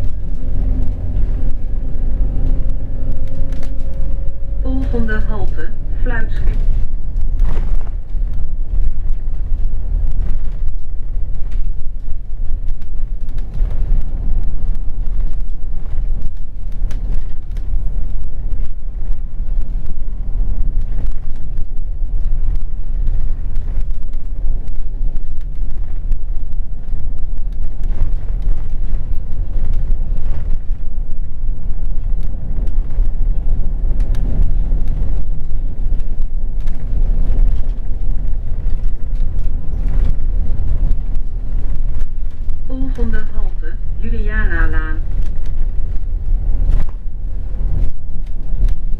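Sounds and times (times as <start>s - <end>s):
bus engine drone: 0.0s - 48.9s
road rumble: 0.0s - 48.9s.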